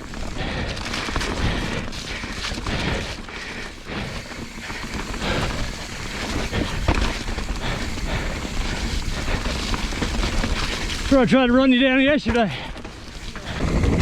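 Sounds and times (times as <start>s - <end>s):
bike knocking and rattling: 0.0s - 14.0s
tyre and wind noise: 0.0s - 14.0s.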